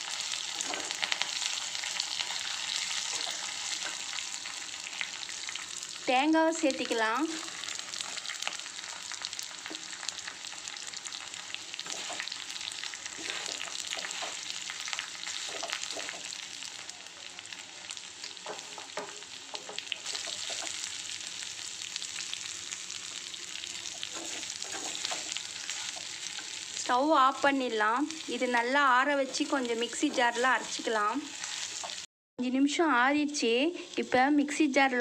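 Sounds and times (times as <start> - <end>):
food sizzling in hot oil: 0.0 - 32.1, 33.2 - 35.0.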